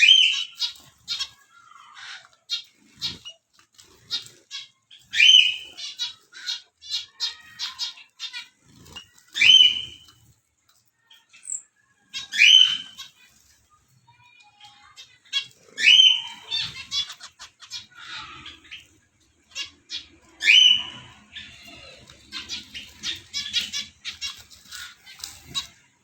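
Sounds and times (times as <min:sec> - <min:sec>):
songbird harsh calls: 0:00.0 - 0:10.1, 0:11.2 - 0:13.3, 0:14.6 - 0:26.0.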